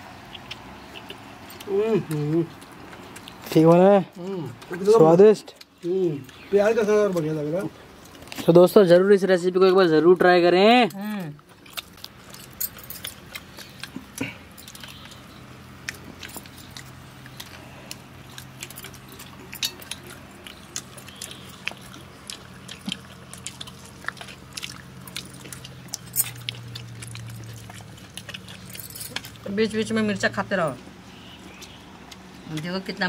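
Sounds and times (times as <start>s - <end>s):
chewing: 0.2s - 8.6s, 11.2s - 32.9s.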